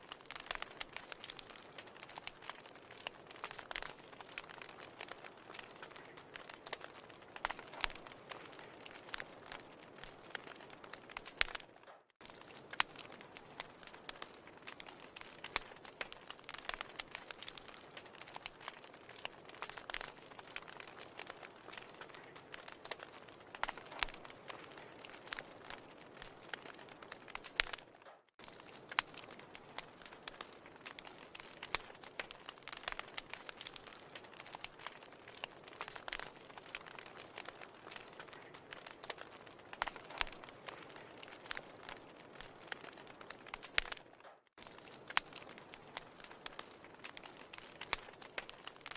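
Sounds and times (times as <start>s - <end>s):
burning logs popping: 0.0s - 48.9s
wood fire crackling: 0.0s - 48.9s.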